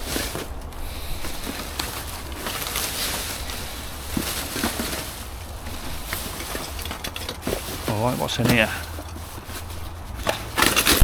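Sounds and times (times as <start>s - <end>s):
rubbish rustling: 0.0s - 11.0s.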